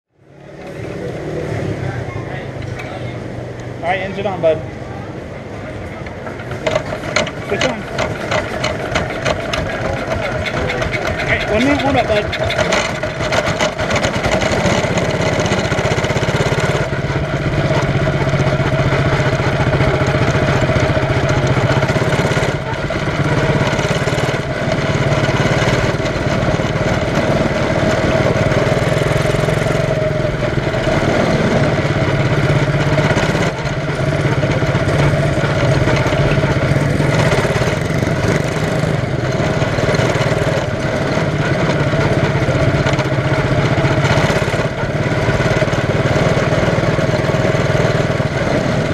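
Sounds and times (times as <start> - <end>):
small race car engine running: 5.2 - 48.9.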